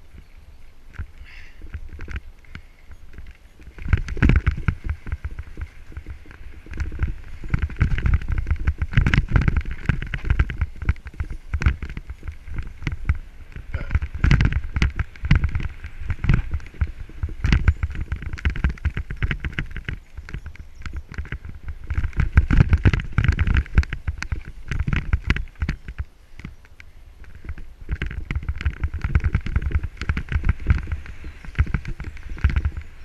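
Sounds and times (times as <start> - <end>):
bike rattling and knocking: 0.0 - 33.0
bike tyres crunching over dirt: 0.0 - 33.0.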